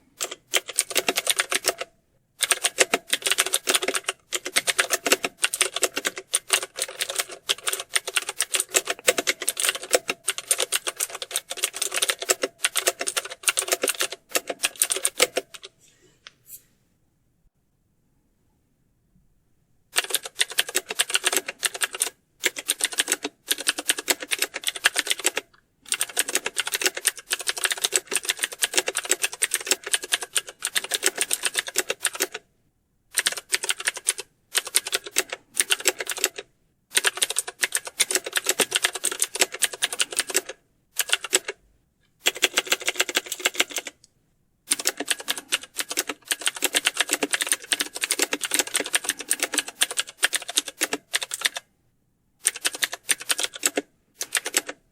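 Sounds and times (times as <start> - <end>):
fast typing on keyboard: 0.2 - 15.7, 19.9 - 32.4, 33.1 - 41.6, 42.2 - 44.0, 44.7 - 51.7, 52.4 - 54.8.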